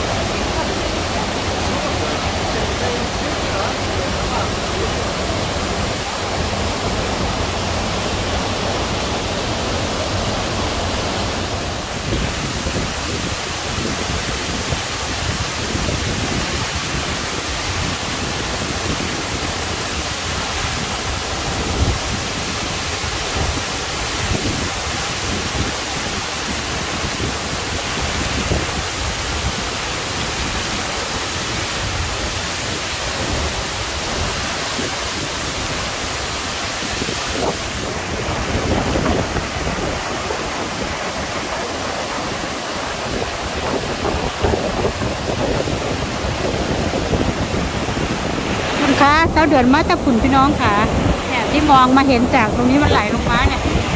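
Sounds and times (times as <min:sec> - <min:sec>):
waterfall crashing: 0:00.0 - 0:53.9.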